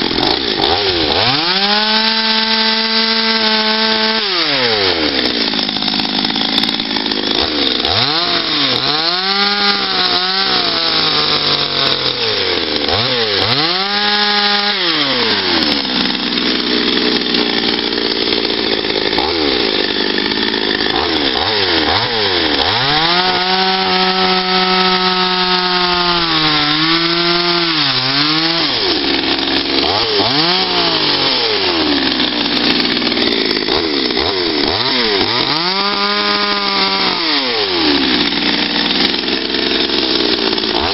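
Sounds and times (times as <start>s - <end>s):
chainsaw cutting wood revving: 0.0s - 40.9s.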